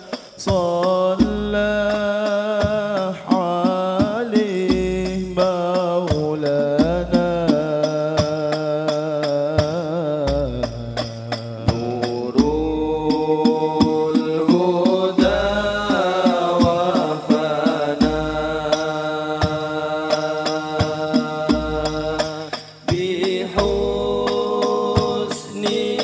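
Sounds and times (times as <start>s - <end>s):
frame drums beating: 0.0s - 26.0s
men singing together: 0.0s - 26.0s.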